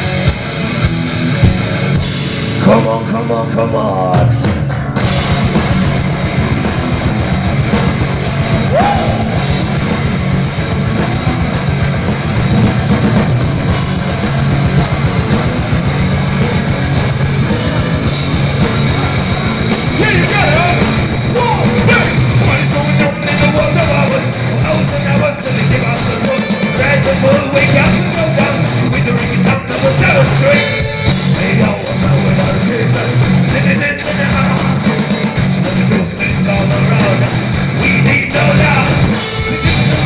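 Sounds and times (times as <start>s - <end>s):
rock band playing live: 0.0s - 40.0s.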